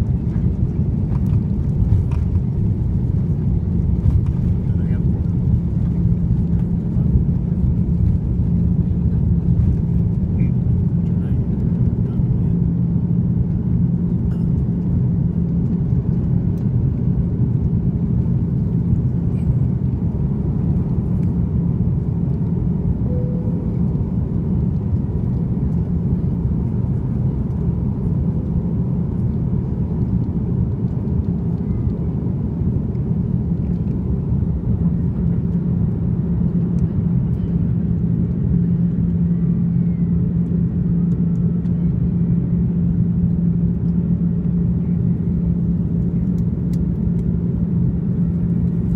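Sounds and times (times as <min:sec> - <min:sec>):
jet engines at takeoff thrust: 0:00.0 - 0:48.9
low hum: 0:00.0 - 0:48.9.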